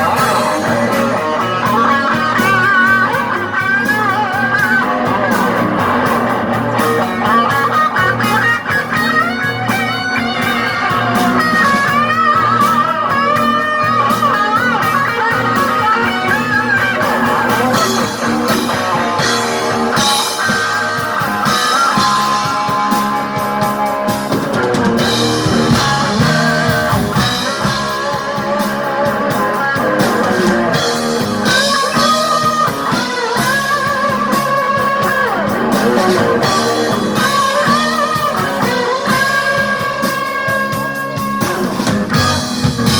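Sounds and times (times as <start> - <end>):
bass and drums: 0.0 - 42.9
blues-rock music: 0.0 - 42.9
electric guitar bent lead lines: 0.0 - 42.9.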